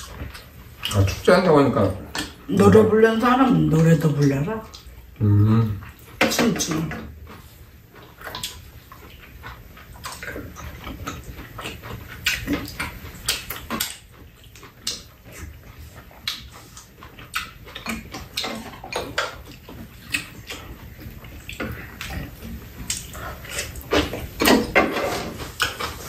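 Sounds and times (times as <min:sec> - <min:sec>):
chewing and mouth smacking: 0:00.0 - 0:26.0.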